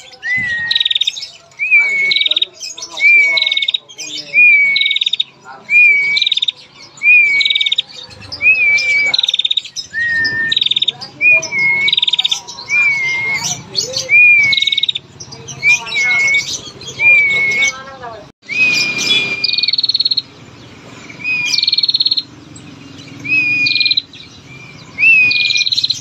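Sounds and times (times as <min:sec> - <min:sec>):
bird whistling and trilling: 0:00.0 - 0:20.3, 0:21.1 - 0:26.0.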